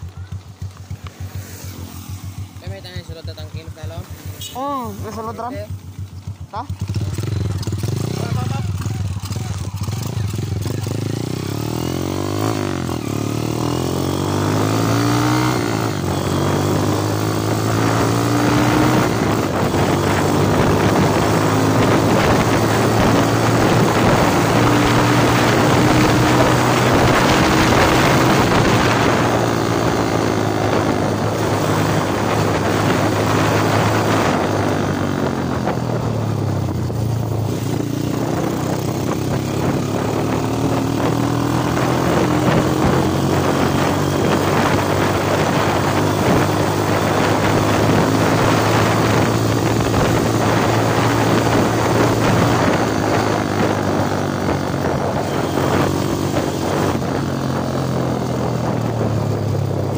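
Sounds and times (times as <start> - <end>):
motorcycle engine revving: 0.0 - 59.9
wind noise on microphone: 6.8 - 59.9.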